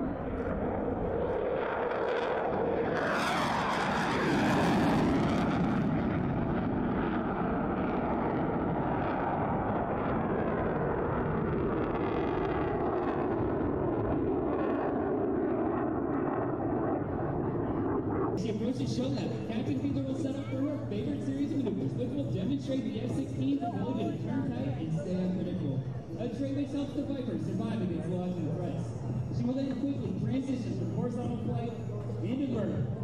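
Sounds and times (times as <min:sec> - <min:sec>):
fighter jet passing: 0:00.0 - 0:33.0.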